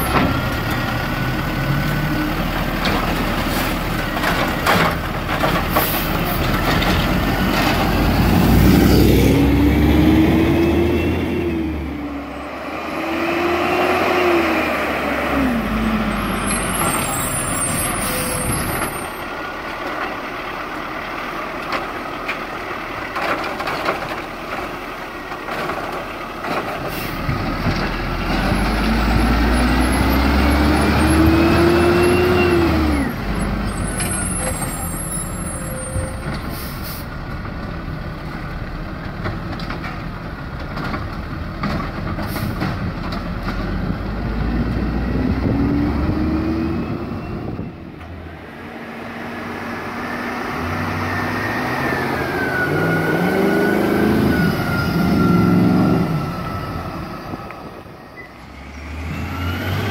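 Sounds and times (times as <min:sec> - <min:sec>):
garbage truck engine revving: 0:00.0 - 0:35.5, 0:40.8 - 0:59.9.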